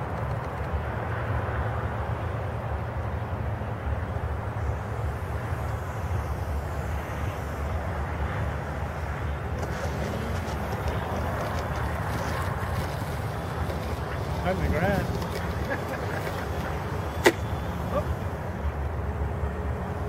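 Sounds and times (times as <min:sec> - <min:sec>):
wheels rolling on asphalt: 0:00.0 - 0:20.0.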